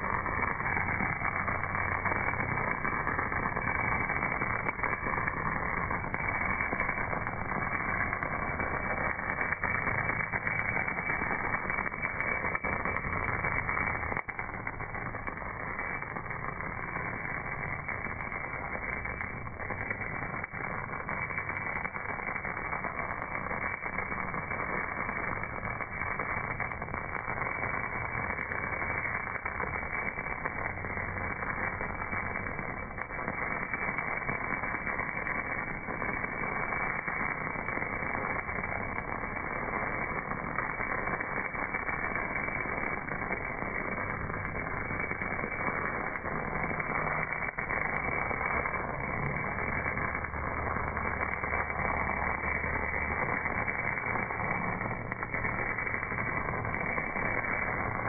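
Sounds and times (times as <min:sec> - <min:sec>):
slowed welding arc rushing: 0:00.0 - 0:58.0.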